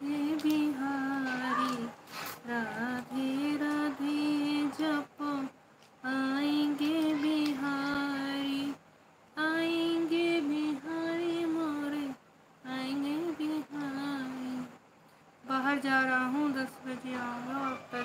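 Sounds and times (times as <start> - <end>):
woman singing a chant: 0.0 - 8.8, 9.4 - 18.0.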